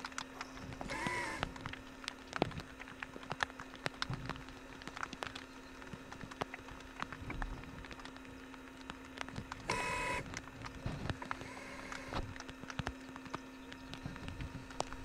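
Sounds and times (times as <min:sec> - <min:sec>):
low hum: 0:00.0 - 0:15.0
sharp clicks and crackles: 0:00.0 - 0:15.0.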